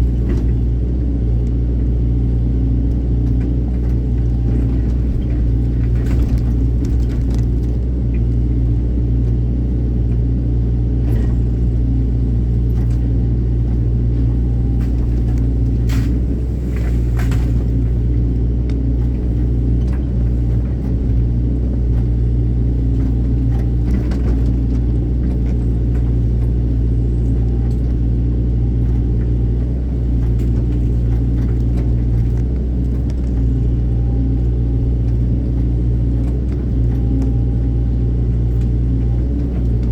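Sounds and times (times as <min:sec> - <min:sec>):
excavator diesel engine rumbling: 0:00.0 - 0:39.9.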